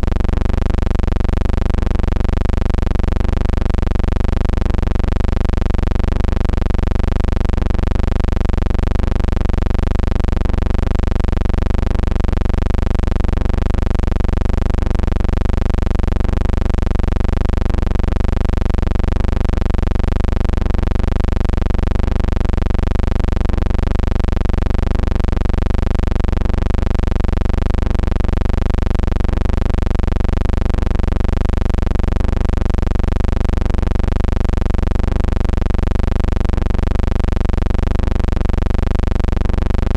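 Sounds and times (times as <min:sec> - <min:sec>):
loud low hum with wavering overtones: 0:00.0 - 0:39.9.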